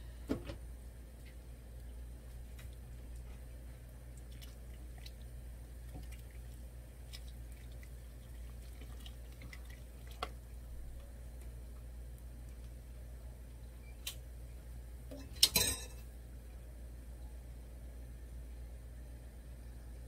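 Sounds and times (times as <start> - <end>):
steady low hum: 0.0 - 20.0
stew bubbling in a pot: 0.8 - 17.9.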